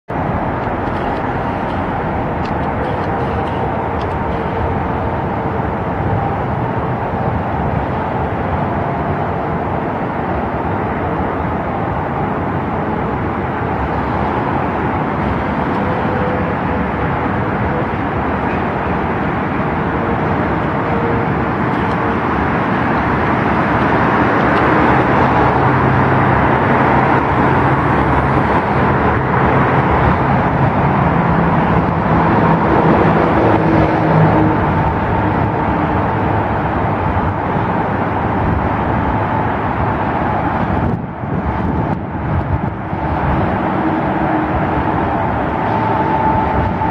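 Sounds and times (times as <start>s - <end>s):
loud traffic rumble: 0.0s - 46.9s
tram creeping along track: 0.1s - 46.9s.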